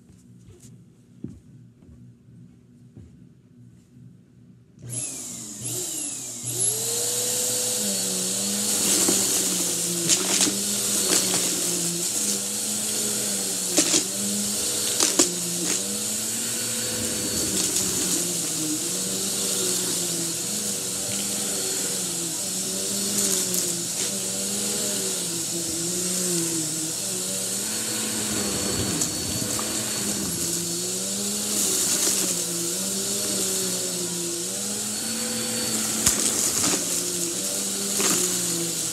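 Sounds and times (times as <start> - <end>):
upright vacuum cleaner running: 4.8 - 38.9.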